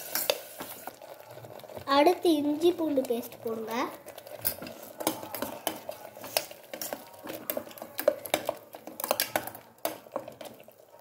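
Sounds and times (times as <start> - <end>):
metal spoon stirring in a pot: 0.0 - 11.0.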